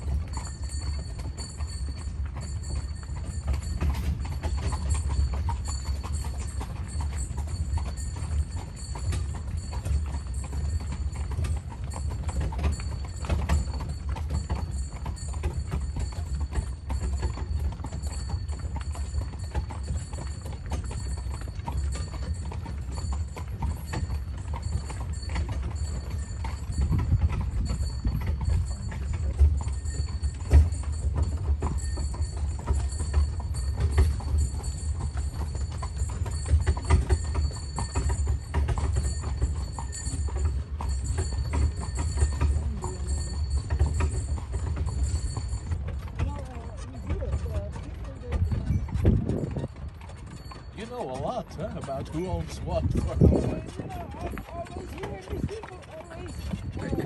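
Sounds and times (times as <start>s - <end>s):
horse hooves clip-clopping: 0.0s - 57.0s.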